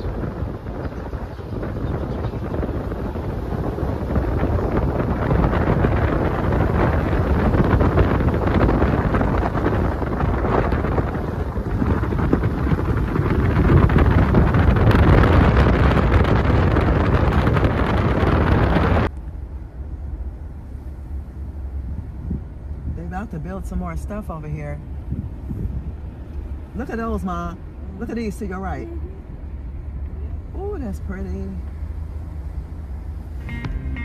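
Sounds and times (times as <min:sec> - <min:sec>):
low hum inside car: 0:00.0 - 0:34.0
wind buffeting microphone: 0:00.0 - 0:34.0.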